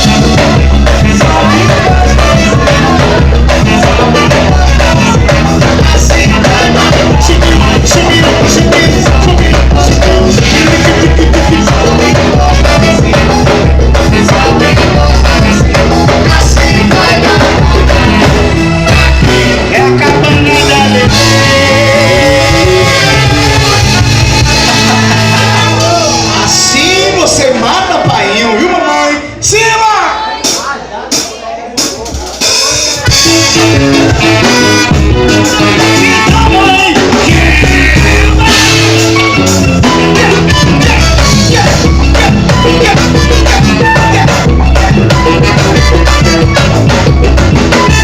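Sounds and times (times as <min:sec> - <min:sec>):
percussion: 0:00.0 - 0:28.6, 0:29.6 - 0:48.0
sung melody: 0:00.0 - 0:29.4, 0:30.5 - 0:48.0
bass: 0:00.0 - 0:48.0.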